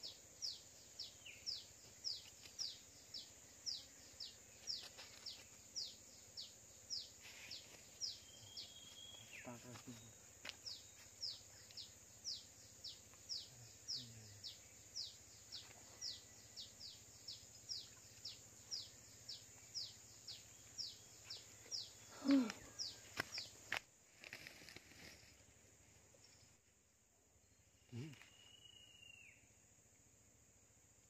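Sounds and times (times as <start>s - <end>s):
insect drone: 0.0s - 31.0s.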